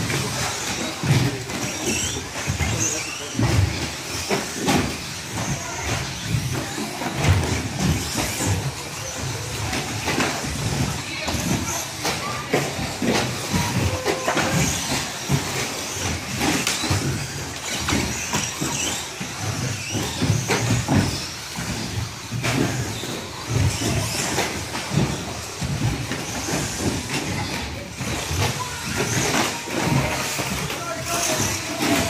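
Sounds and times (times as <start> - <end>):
rc truck motors running: 0.0 - 32.0.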